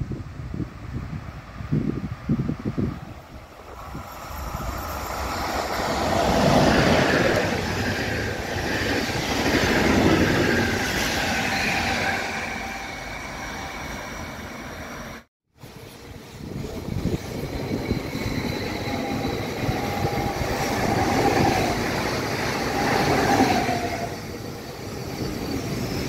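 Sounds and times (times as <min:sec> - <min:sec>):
train rumble and wheel noise: 0:00.0 - 0:26.0.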